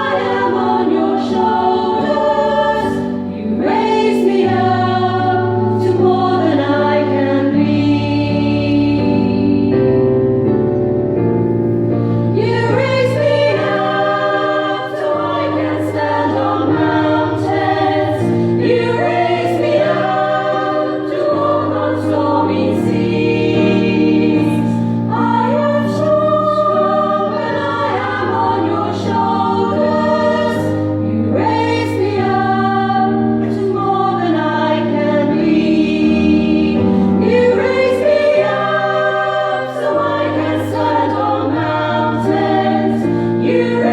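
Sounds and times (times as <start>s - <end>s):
women's choir singing: 0.0s - 10.2s, 12.3s - 43.9s.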